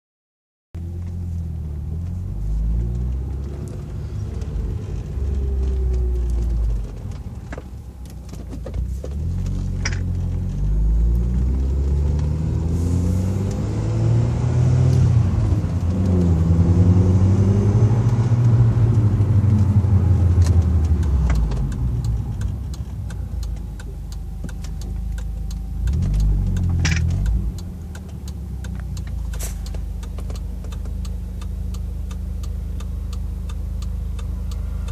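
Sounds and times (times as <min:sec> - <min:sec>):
car engine accelerating: 0:00.8 - 0:34.9.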